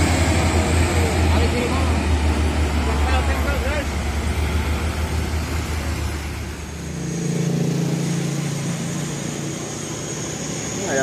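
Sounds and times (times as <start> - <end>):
traffic engine hum: 0.0 - 11.0
truck diesel engine rumbling: 0.0 - 11.0.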